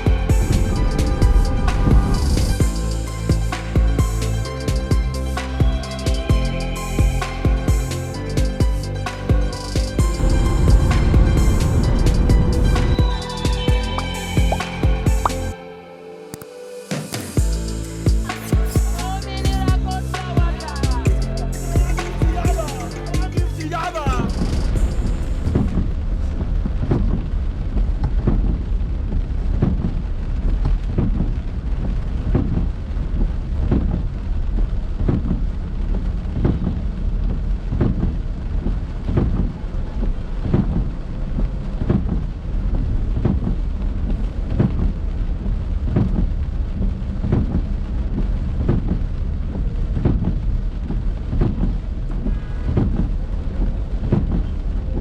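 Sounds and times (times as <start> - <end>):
rain on a moving car: 0.0 - 15.2, 17.3 - 55.0
low rumble: 0.0 - 16.0, 17.4 - 55.0.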